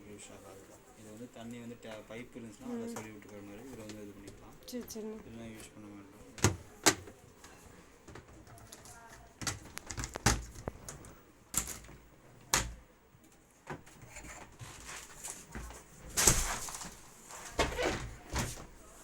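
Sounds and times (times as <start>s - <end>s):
objects rustling and clattering: 2.9s - 19.0s.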